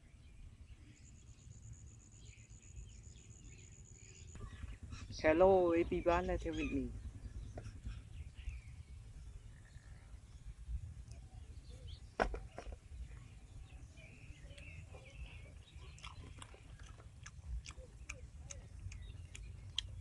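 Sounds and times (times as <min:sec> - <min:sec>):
low wind rumble: 0:00.0 - 0:20.0.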